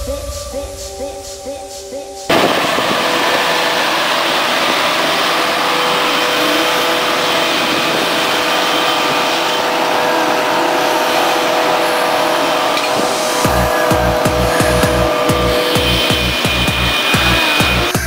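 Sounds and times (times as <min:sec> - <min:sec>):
faint high whine: 0:02.3 - 0:18.0
tractor driving past: 0:02.3 - 0:18.0.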